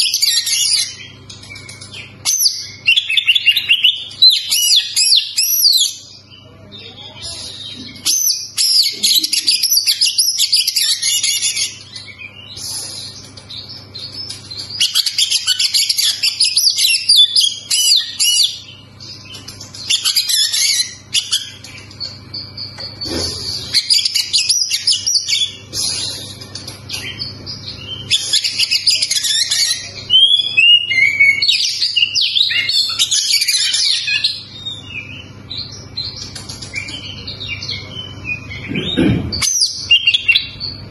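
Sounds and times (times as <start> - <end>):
bird song whistles and chattering: 0.0 - 40.9.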